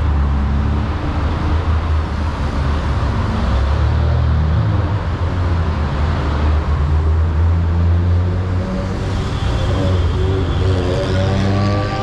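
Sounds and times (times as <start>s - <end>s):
traffic hum: 0.0s - 12.0s.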